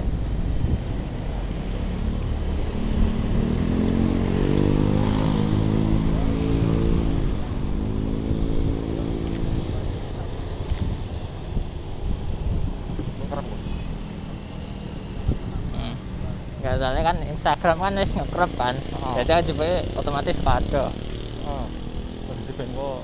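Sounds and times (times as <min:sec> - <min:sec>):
motorcycle passing: 0:00.0 - 0:23.0
traffic rumble: 0:00.0 - 0:23.0.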